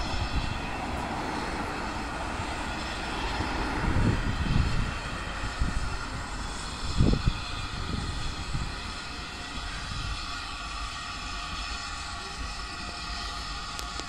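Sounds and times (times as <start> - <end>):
distant train approaching: 0.0 - 14.0
wind buffeting microphone: 0.0 - 14.0.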